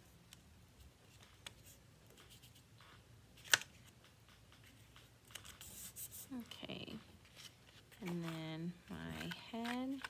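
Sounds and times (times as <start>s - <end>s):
paper rustling: 1.0s - 10.0s.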